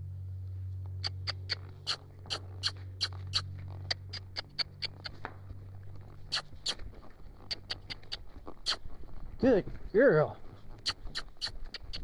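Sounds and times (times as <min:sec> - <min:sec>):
low hum: 0:00.0 - 0:12.0
horse hooves clicking on sand: 0:00.7 - 0:12.0.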